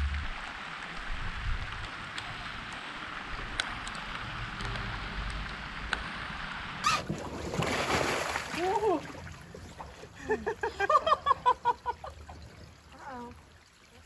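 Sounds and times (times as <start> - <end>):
low rumble of wind: 0.0 - 13.8
rain falling on lake water: 0.0 - 14.0.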